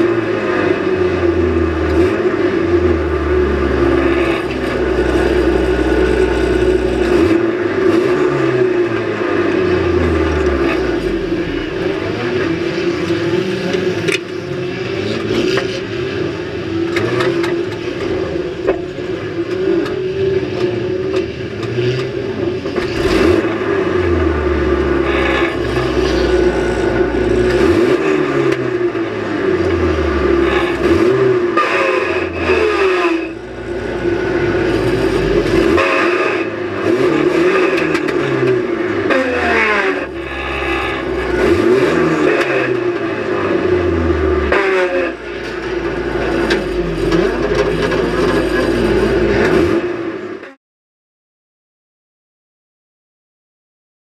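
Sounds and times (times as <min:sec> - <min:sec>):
car engine revving: 0:00.0 - 0:50.5.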